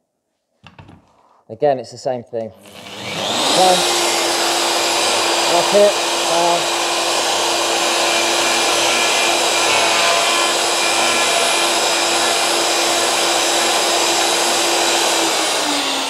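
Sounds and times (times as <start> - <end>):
router motor running: 2.6 - 16.0.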